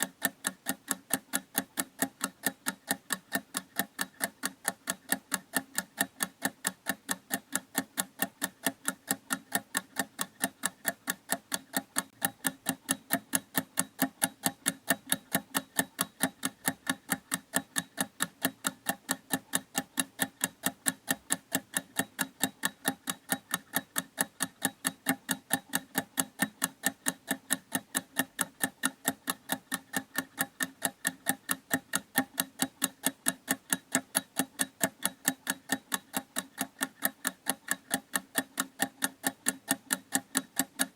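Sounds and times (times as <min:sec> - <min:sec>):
clock ticking fast: 0:00.0 - 0:40.9.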